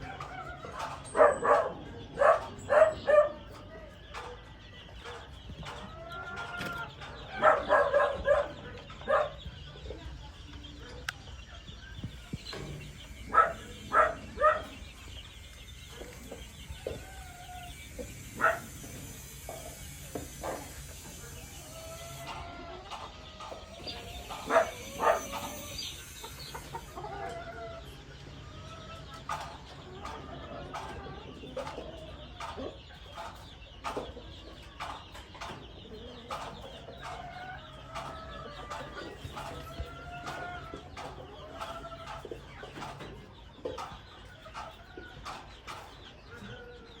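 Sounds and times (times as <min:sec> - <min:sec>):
chickens clucking and calling: 0:00.0 - 0:47.0.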